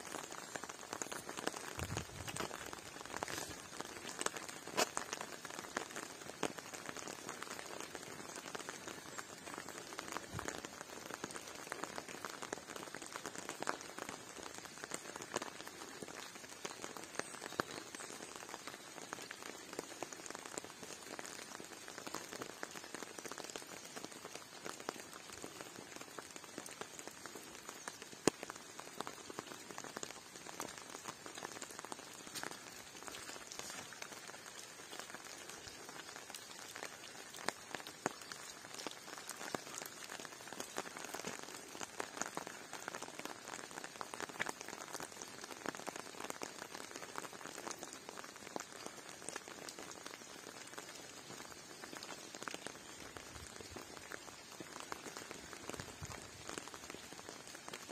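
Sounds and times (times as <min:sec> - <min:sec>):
raindrops ticking on a surface: 0:00.0 - 0:57.9.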